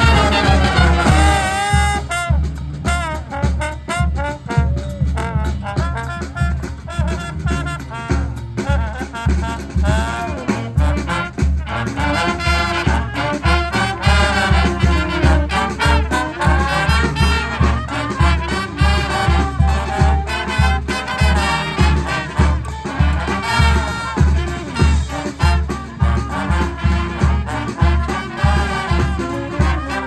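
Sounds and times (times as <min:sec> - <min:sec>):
brass band playing swing tune: 0:00.0 - 0:30.0
horn smear: 0:00.0 - 0:30.0.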